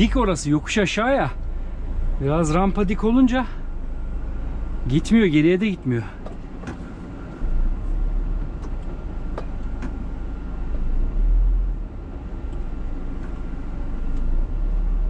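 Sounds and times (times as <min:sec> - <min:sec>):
diesel truck engine rumble: 0:00.0 - 0:15.0.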